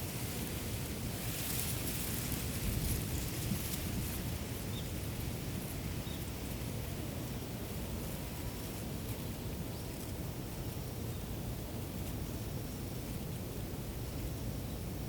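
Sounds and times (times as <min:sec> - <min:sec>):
wind rumble on microphone: 0:00.0 - 0:15.0
wind rustling through rice: 0:00.0 - 0:15.0.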